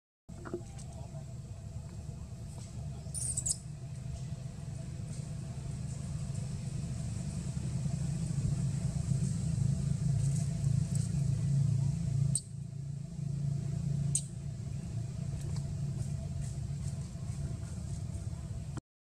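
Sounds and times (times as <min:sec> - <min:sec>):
vehicle engine rumbling: 0:00.3 - 0:18.8.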